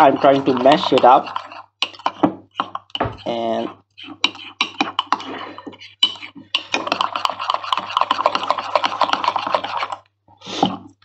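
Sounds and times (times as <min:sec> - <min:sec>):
spoon scraping and knocking in mug: 0:00.0 - 0:10.0.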